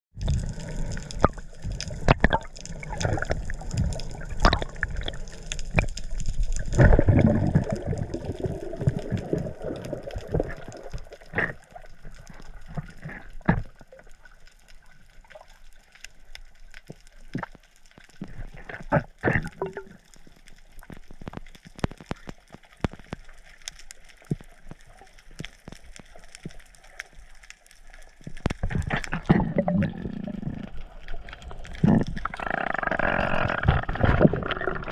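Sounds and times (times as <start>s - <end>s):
muffled underwater water movement: 0.2s - 34.9s
sharp underwater clicks and crackles: 0.2s - 34.9s.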